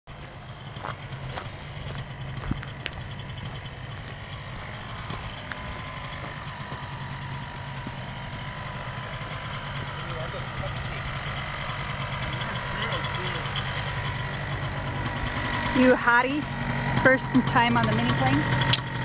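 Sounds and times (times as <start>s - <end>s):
small engine idling: 0.1s - 19.0s.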